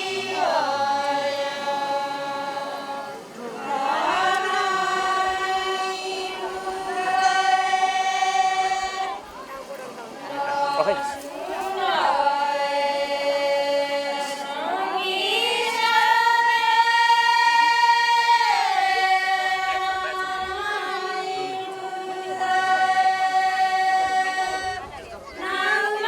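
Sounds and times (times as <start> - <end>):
women singing together: 0.0 - 26.0.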